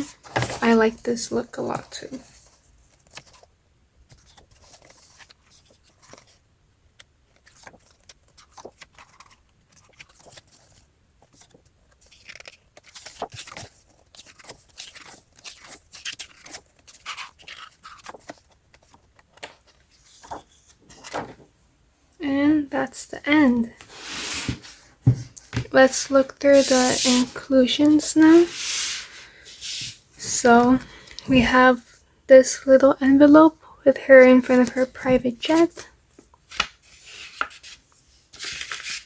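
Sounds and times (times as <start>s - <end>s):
book pages turning: 0.0s - 1.3s, 1.9s - 6.4s, 7.0s - 21.5s, 23.7s - 31.6s, 34.4s - 39.0s.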